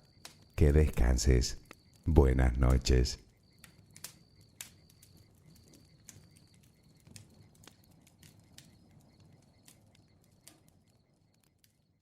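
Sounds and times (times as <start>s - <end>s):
low rumble of burning wood: 0.0s - 12.0s
bonfire pops and snaps: 0.1s - 2.8s, 3.5s - 11.8s.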